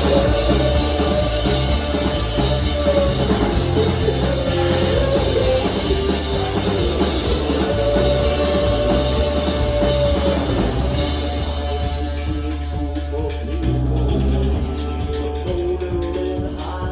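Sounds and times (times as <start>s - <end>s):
live band playing: 0.0s - 16.9s.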